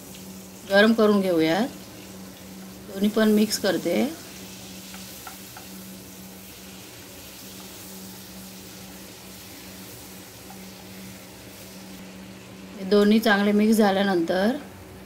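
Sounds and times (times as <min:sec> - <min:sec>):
oil and butter sizzling: 0:00.0 - 0:15.0.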